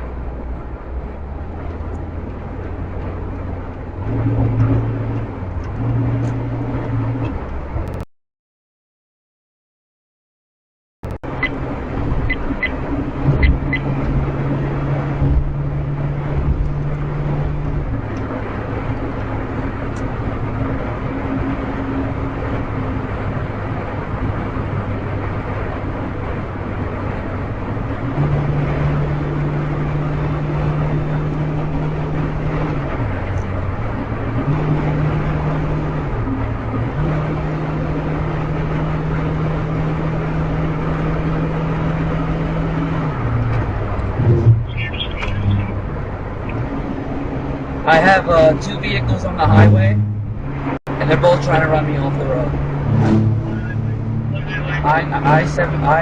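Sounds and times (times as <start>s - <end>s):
car engine and road noise: 0.0s - 8.1s, 11.0s - 56.0s.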